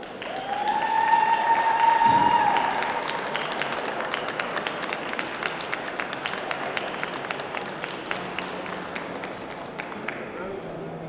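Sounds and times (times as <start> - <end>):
audience clapping: 0.0 - 10.6.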